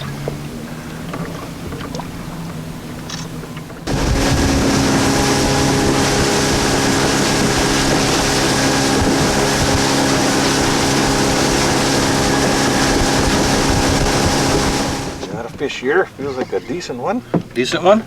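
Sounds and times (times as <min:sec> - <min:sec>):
water rushing: 0:00.0 - 0:17.1
boat motor running: 0:00.0 - 0:18.0
wind: 0:00.0 - 0:18.0.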